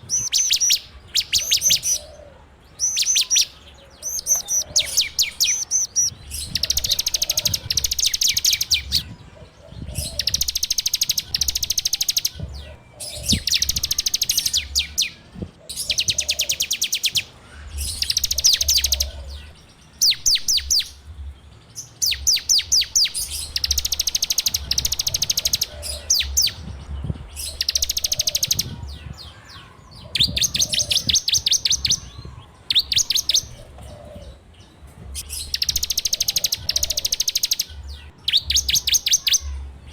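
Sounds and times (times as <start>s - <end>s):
bird singing rattling trill: 0.0s - 2.1s, 2.8s - 39.9s.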